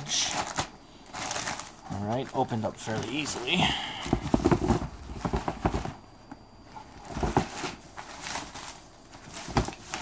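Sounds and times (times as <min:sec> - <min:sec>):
cardboard boxes being handled: 0:00.3 - 0:10.0.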